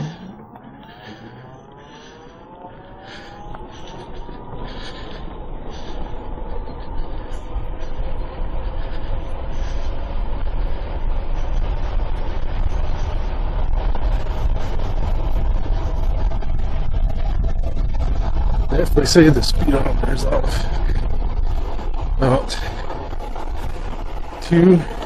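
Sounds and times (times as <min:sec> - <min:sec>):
electric motor whining: 0:00.0 - 0:25.0
wind noise on microphone: 0:03.2 - 0:25.0.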